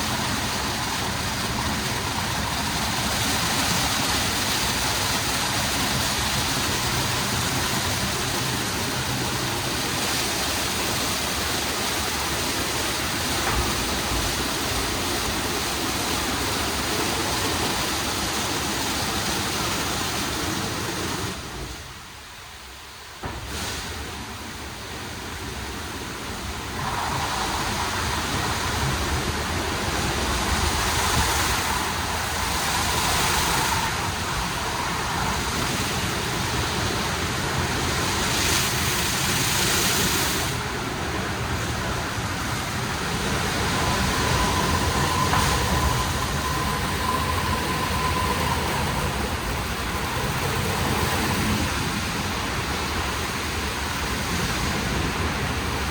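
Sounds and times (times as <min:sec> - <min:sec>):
car wash spray and machinery: 0:00.0 - 0:55.9.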